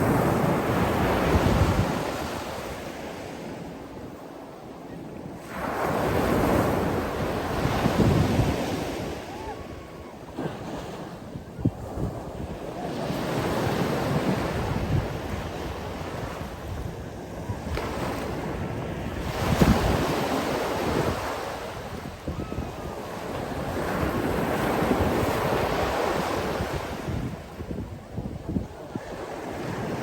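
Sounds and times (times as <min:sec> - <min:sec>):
wind rumbling on microphone: 0:00.0 - 0:02.9, 0:05.8 - 0:30.0.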